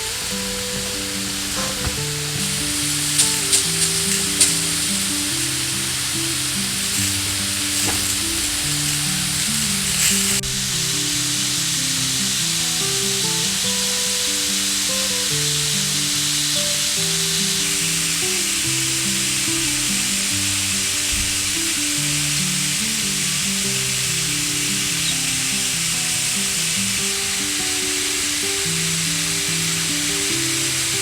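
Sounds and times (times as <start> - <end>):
slow background music: 0.0 - 31.0
steady hiss: 0.0 - 31.0.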